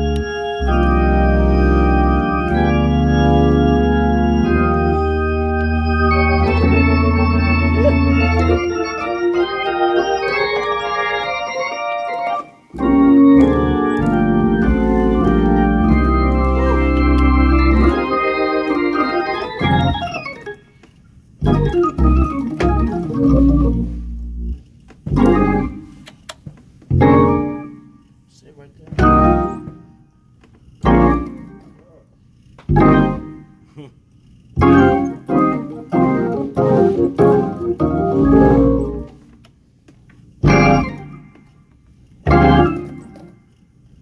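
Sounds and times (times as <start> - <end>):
gospel organ chords: 0.0 - 20.8, 21.4 - 26.1, 26.9 - 27.9, 28.9 - 30.0, 30.8 - 31.8, 32.7 - 33.5, 34.6 - 39.3, 40.4 - 41.6, 42.3 - 43.4.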